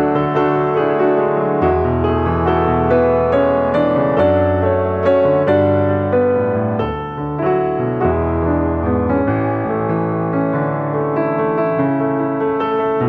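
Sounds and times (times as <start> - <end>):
gentle piano piece: 0.0 - 13.0.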